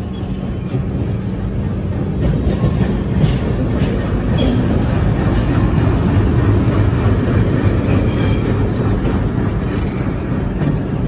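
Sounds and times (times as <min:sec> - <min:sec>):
locomotive engine rumble: 0:00.0 - 0:11.0
train wheels on rails: 0:00.0 - 0:11.0.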